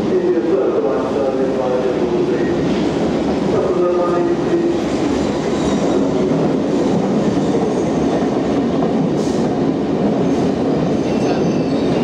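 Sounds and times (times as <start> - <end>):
train rail and wheel noise: 0.0 - 12.0.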